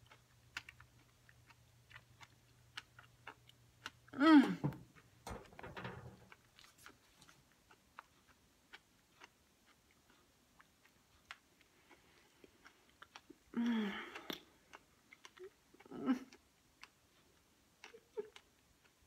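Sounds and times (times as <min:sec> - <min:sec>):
soft chewing: 0:00.0 - 0:19.0.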